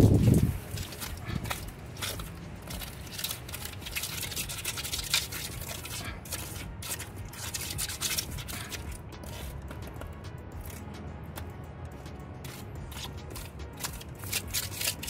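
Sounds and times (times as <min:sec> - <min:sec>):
trowel scraping wet mortar: 0:00.0 - 0:10.0, 0:12.4 - 0:15.0.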